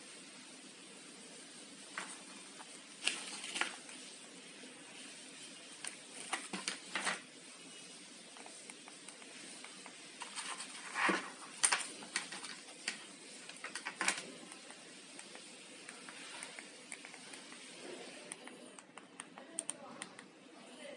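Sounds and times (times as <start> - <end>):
steady hiss: 0.0 - 19.2.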